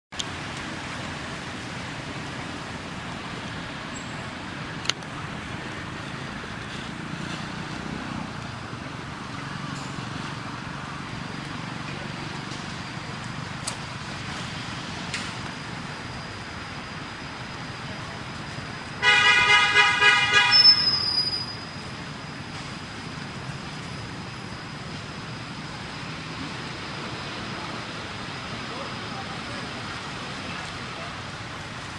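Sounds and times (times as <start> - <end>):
road traffic hum: 0.1 - 31.9.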